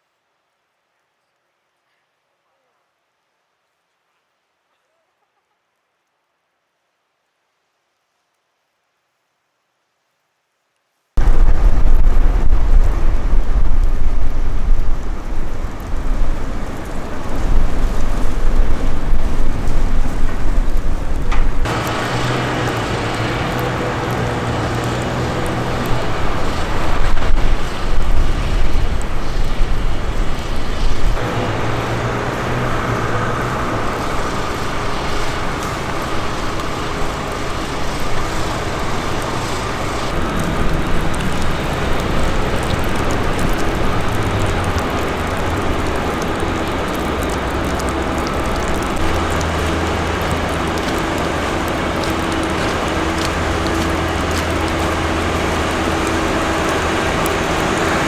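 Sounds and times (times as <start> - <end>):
city street traffic noise: 11.2 - 58.0.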